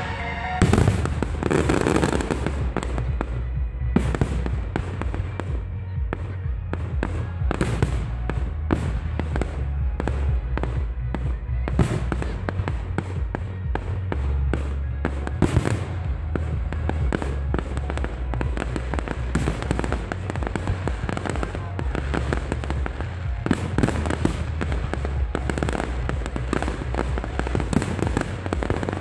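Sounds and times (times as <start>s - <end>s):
fireworks bursts and crackling: 0.0s - 29.0s
low rumble: 0.0s - 29.0s.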